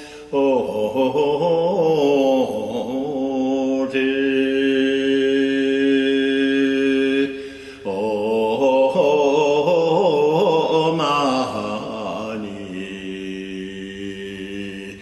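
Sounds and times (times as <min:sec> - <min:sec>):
person chanting in held notes: 0:00.0 - 0:15.0.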